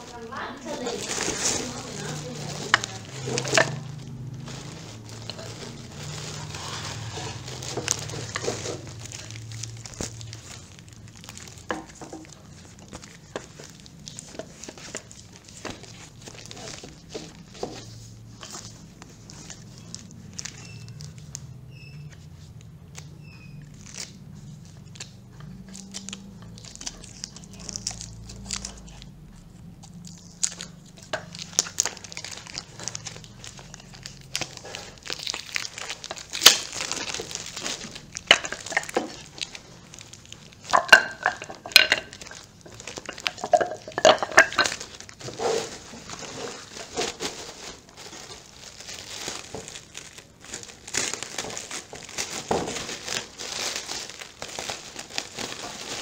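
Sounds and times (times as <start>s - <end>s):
plastic wrapping crinkling: 0.0s - 56.0s.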